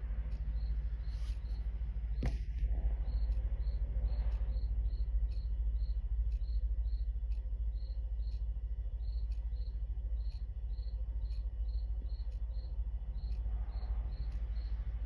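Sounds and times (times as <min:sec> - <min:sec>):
clock ticking: 0:00.1 - 0:01.6, 0:03.0 - 0:15.0.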